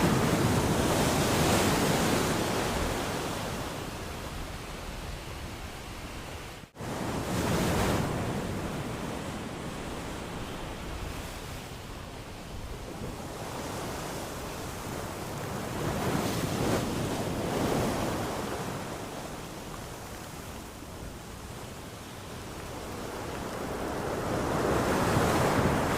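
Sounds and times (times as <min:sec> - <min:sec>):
ocean waves breaking on shore: 0:00.0 - 0:25.9.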